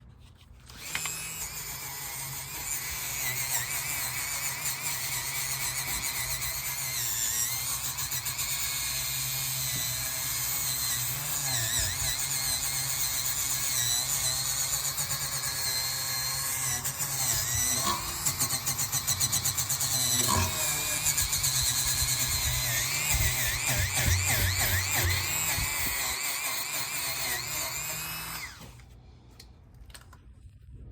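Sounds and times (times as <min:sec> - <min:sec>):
power tool whining: 0:00.7 - 0:28.9.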